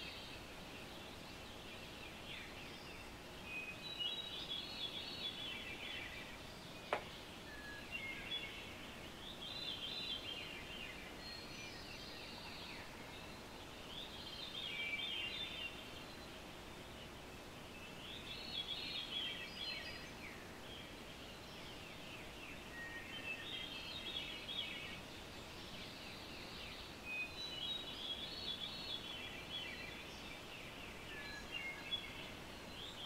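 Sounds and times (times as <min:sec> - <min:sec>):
faint background hiss: 0:00.0 - 0:33.0
songbird singing: 0:00.0 - 0:33.0.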